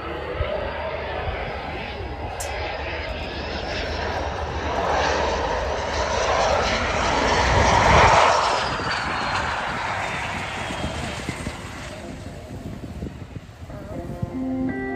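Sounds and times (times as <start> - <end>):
jet engine of landing fighter: 0.0 - 14.2.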